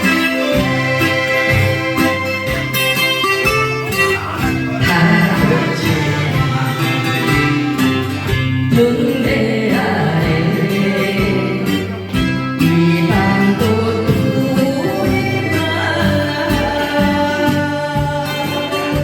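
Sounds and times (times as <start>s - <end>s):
pop song accompaniment: 0.0s - 19.0s.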